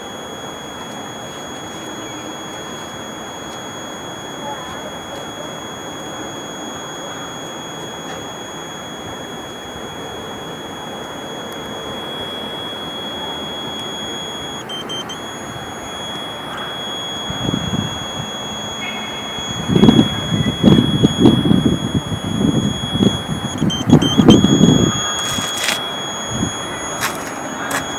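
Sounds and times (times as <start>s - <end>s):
high-pitched electronic tone: 0.0s - 27.9s.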